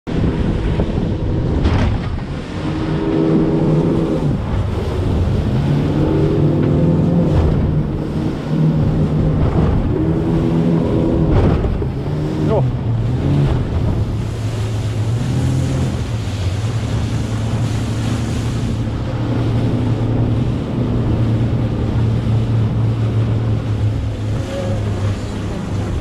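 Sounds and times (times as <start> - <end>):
wind: 0.0 - 26.0
outboard motors running: 0.1 - 26.0
water rushing past hull: 0.1 - 26.0
water slaps: 3.6 - 26.0.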